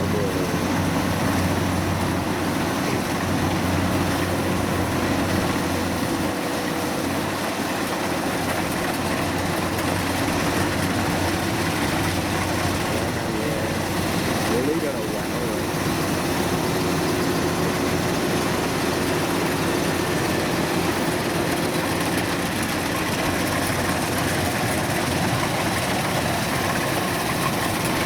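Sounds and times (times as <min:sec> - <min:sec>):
diesel engine running steadily: 0:00.0 - 0:28.0.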